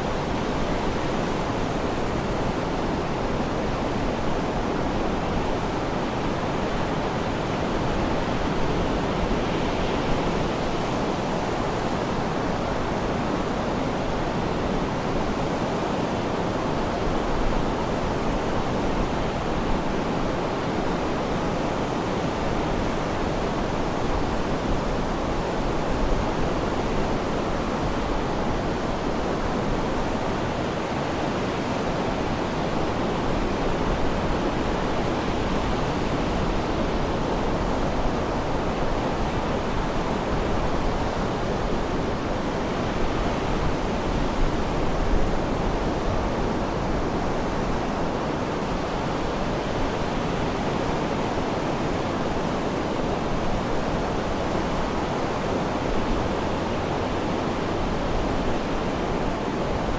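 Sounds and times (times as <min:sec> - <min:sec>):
sea surf rushing: 0:00.0 - 0:59.9.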